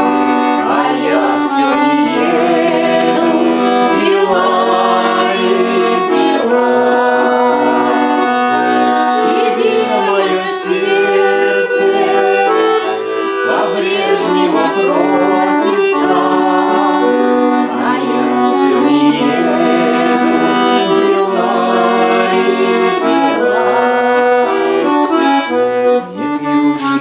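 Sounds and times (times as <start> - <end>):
accordion folk melody: 0.0 - 27.0.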